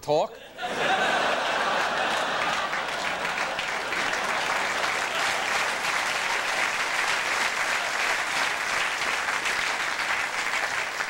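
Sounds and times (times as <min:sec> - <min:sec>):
studio audience applauding: 0:00.6 - 0:11.0.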